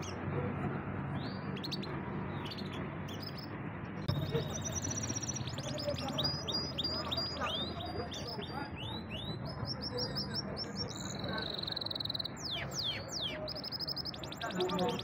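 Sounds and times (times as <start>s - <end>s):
canary singing: 1.1s - 15.0s.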